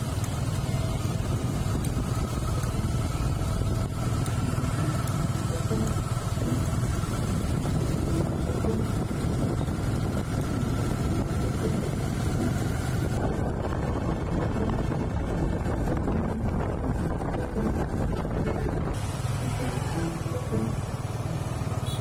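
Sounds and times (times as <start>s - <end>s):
wind buffeting microphone: 0.0s - 19.1s
vehicle rumble: 0.0s - 22.0s.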